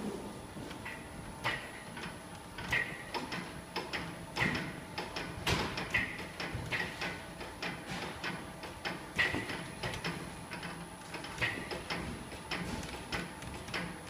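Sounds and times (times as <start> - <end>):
machine mechanical clacks: 0.7 - 14.0.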